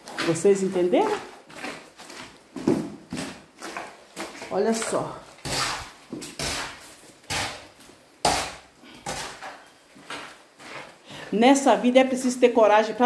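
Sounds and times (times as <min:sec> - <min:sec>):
boots stamping in damp clay: 0:00.0 - 0:11.0.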